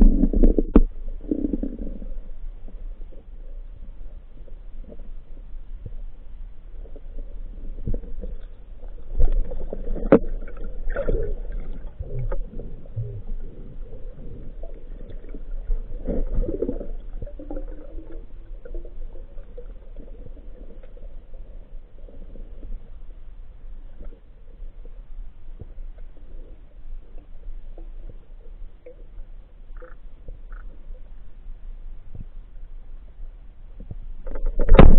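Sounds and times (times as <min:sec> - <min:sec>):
muffled underwater rumble: 0:00.0 - 0:34.9.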